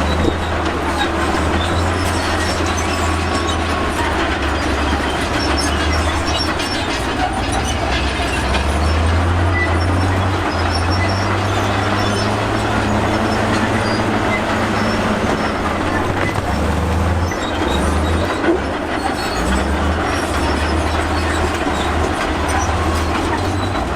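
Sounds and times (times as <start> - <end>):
bulldozer diesel engine running: 0.0 - 23.9
steel tracks clattering: 0.0 - 23.9
steel tracks squeaking: 0.0 - 23.9.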